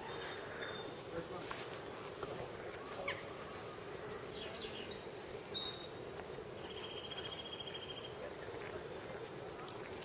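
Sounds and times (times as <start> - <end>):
small birds chirping: 0.0 - 9.8
outdoor background hiss: 0.0 - 10.0.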